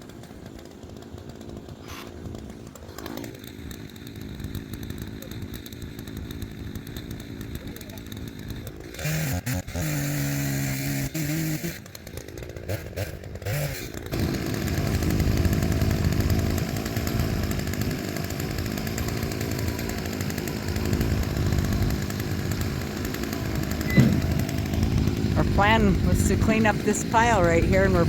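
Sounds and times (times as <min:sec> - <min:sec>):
chainsaw cutting logs: 0:00.0 - 0:28.0.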